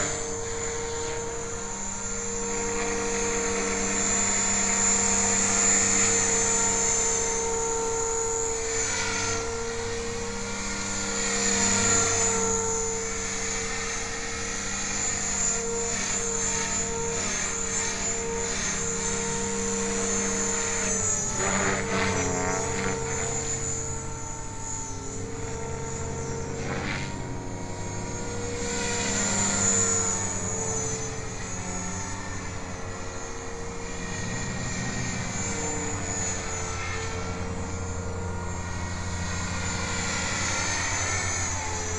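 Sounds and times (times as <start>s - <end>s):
rc helicopter motor whine: 0.0s - 41.9s.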